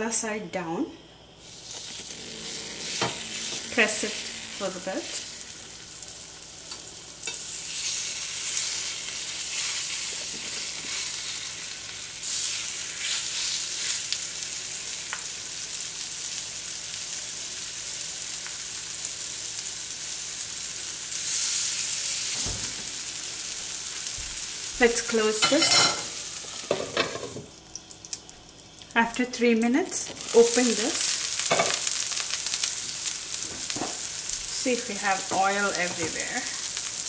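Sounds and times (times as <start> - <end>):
prawns sizzling in hot oil: 1.3 - 37.0.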